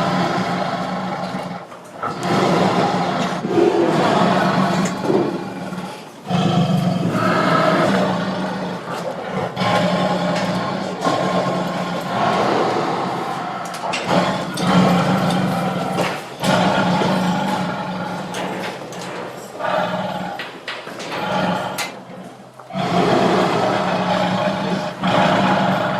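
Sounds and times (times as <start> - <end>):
tiger growling and roaring: 0.0 - 25.9.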